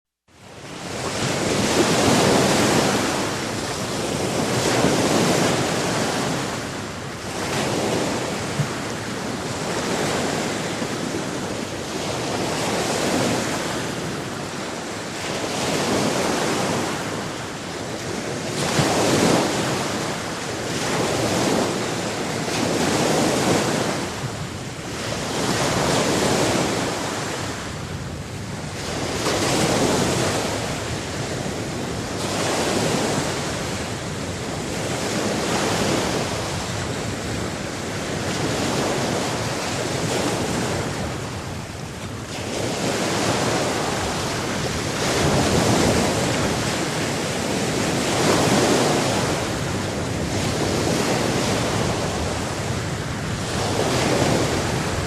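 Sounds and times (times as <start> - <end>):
waves breaking on shore: 0.3 - 55.0.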